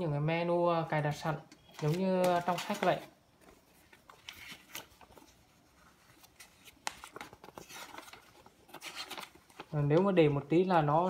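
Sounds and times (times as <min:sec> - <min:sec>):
paper pages rustling: 0:01.0 - 0:10.9.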